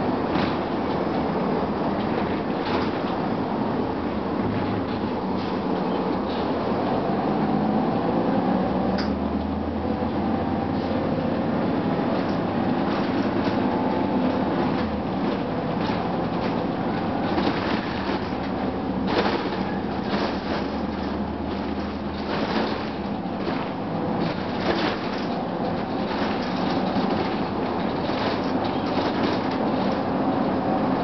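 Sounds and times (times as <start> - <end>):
bus body rattles and knocks: 0.0 - 31.0
bus diesel engine drone: 0.0 - 31.0.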